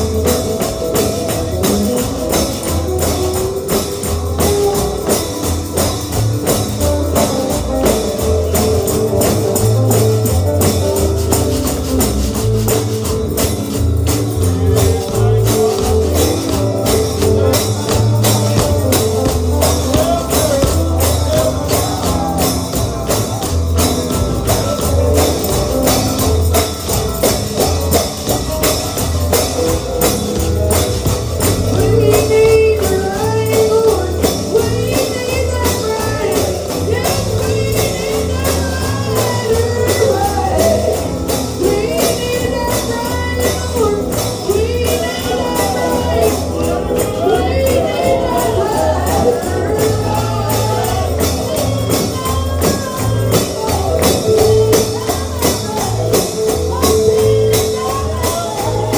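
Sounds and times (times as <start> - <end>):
gospel band playing: 0.0 - 58.9
pulsing bass line: 0.0 - 58.9
tambourine shaken and struck: 0.0 - 58.9.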